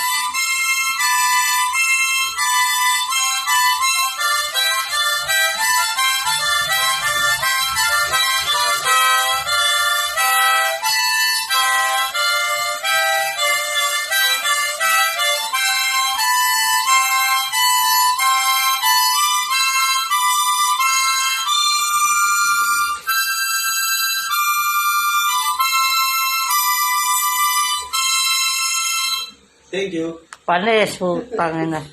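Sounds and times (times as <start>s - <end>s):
harmonica melody: 0.0s - 30.2s.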